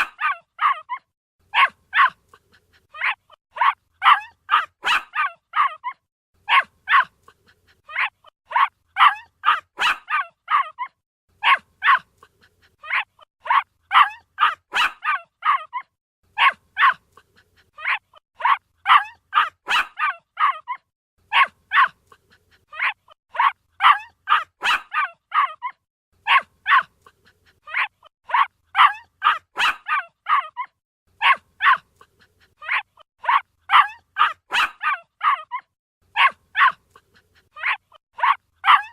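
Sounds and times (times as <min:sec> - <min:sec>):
puppy barking: 0:00.0 - 0:38.9.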